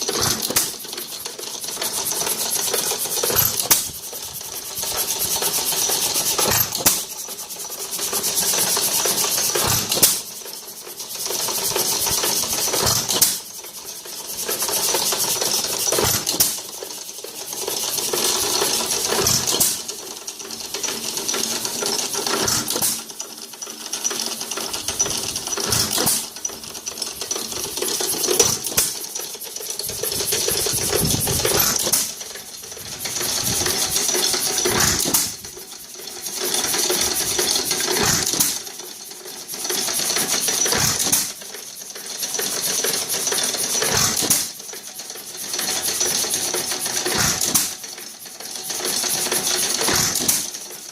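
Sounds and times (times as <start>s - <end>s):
engine clattering: 0.0s - 50.9s.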